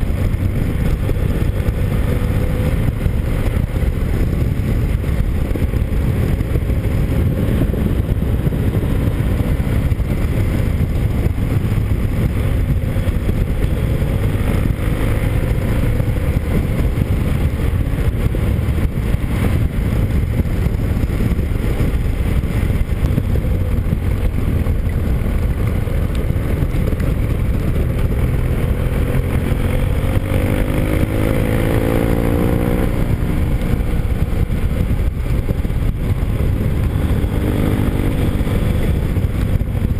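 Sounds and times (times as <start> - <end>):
motorcycle engine accelerating: 0.0 - 39.9
wind noise on microphone: 0.0 - 39.9.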